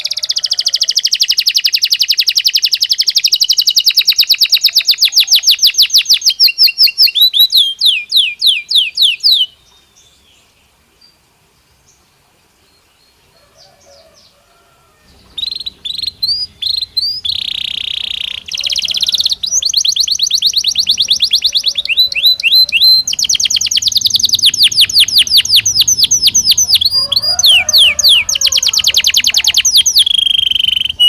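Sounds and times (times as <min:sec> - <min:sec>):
canary singing trills: 0:00.0 - 0:11.2, 0:12.7 - 0:31.0.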